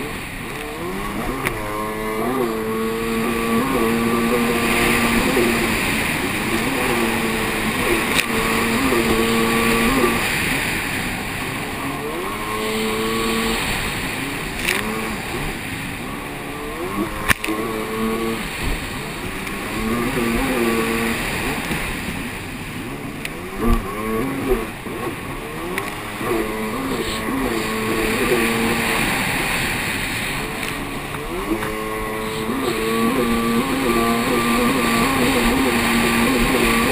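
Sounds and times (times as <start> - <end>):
jet ski engine running hard: 0.0 - 36.9
water spray and hull noise: 0.0 - 36.9.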